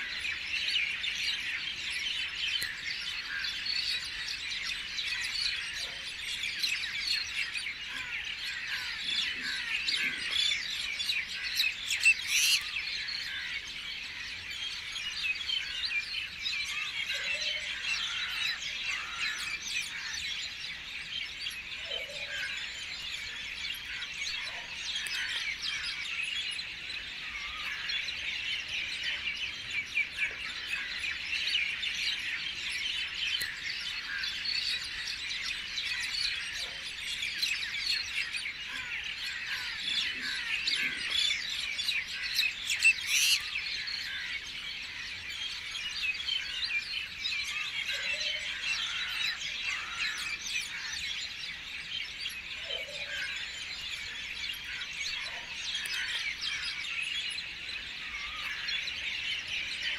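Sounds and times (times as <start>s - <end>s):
songbirds chirping chorus: 0.0s - 59.9s.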